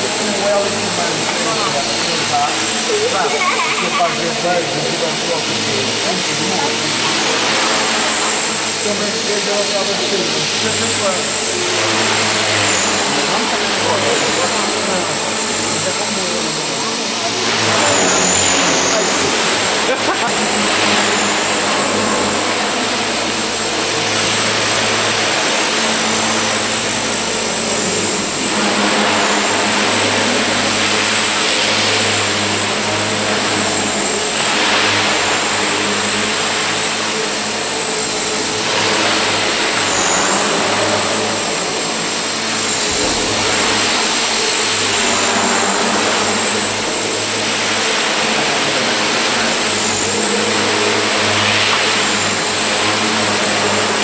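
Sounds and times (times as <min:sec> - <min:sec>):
model helicopter motor whine: 0:00.0 - 0:54.0
rotor whoosh: 0:00.0 - 0:54.0.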